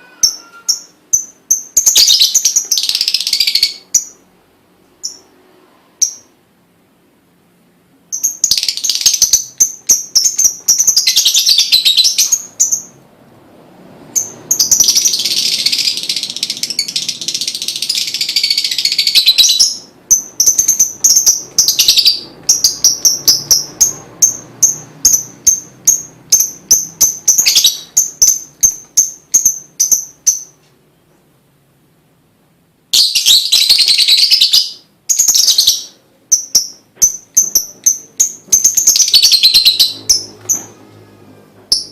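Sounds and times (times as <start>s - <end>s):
bird harsh trills: 0.0s - 4.2s, 8.2s - 13.0s, 14.2s - 30.6s, 33.0s - 41.9s
bird chirping: 0.0s - 5.4s, 6.0s - 6.4s, 8.1s - 13.1s, 14.1s - 31.2s, 32.9s - 41.9s.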